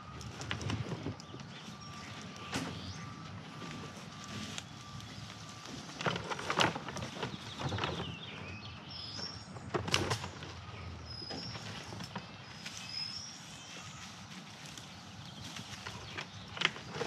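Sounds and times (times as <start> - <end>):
conifer boughs rustling and crunching: 0.0 - 17.0.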